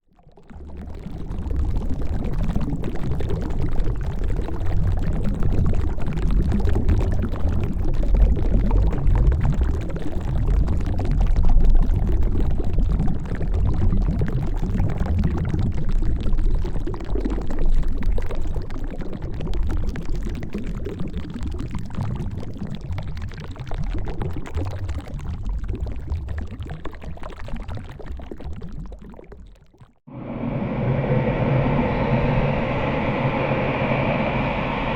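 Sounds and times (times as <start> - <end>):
underwater rushing and bubbling: 0.1 - 34.9.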